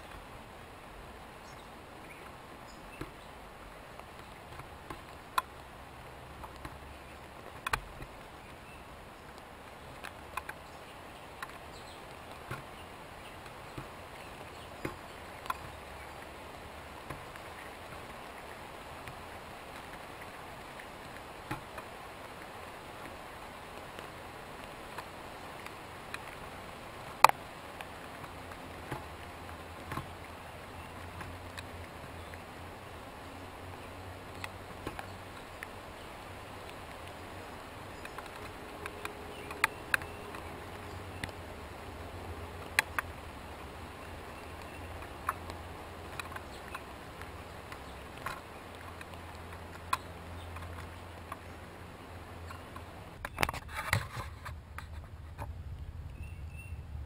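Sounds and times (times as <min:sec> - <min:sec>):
faint steady hum: 0:00.0 - 0:57.0
chipmunks cracking corn: 0:04.0 - 0:54.0.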